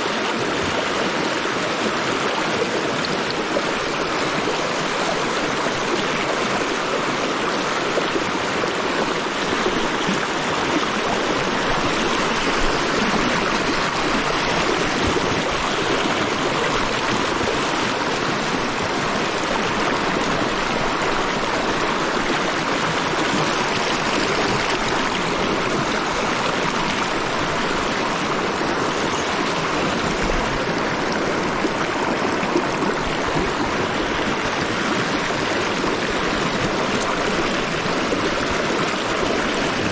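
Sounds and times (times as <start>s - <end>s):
river rapids rushing over boulders: 0.0s - 39.9s.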